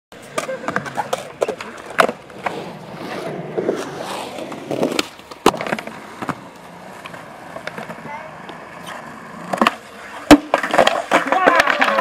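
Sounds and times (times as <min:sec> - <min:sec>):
skateboard wheels rolling on concrete: 0:00.1 - 0:12.0
skateboard clacks: 0:00.2 - 0:12.0.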